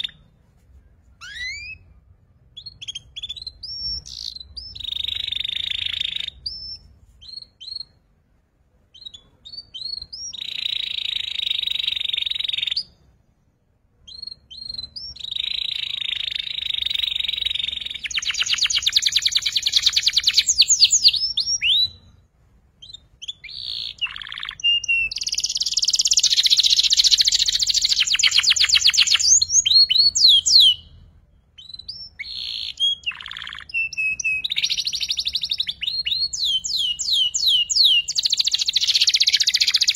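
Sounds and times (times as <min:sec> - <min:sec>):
canary trills: 0:00.0 - 0:00.4, 0:01.1 - 0:08.0, 0:09.0 - 0:13.1, 0:14.0 - 0:22.2, 0:22.8 - 0:39.9
canary chirps: 0:00.0 - 0:08.3, 0:08.9 - 0:39.9.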